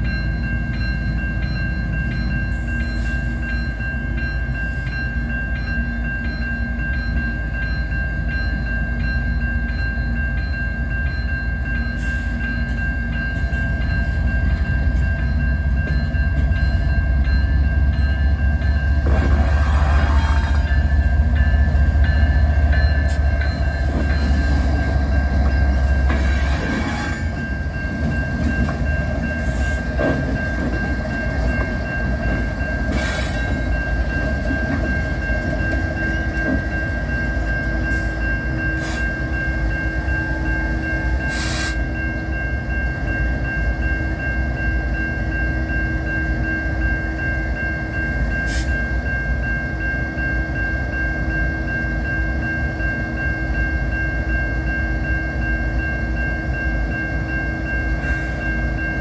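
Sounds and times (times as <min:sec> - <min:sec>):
crossing warning bell ringing: 0:00.0 - 0:59.0
diesel locomotives rumbling: 0:00.0 - 0:59.0.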